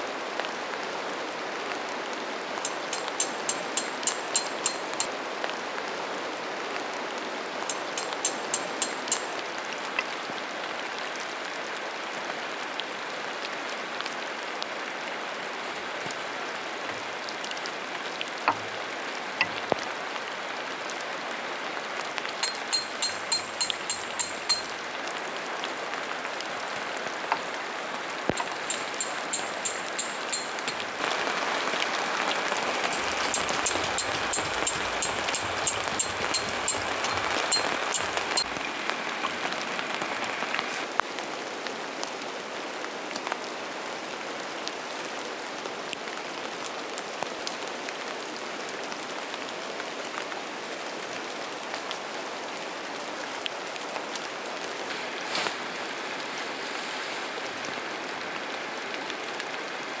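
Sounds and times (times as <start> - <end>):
rain falling: 0.0 - 60.0
sharp ticks of rain: 0.0 - 60.0.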